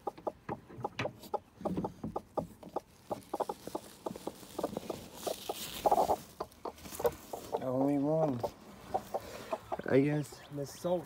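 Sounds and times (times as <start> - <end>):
hen clucking: 0.0 - 11.0
rustle: 0.0 - 11.0.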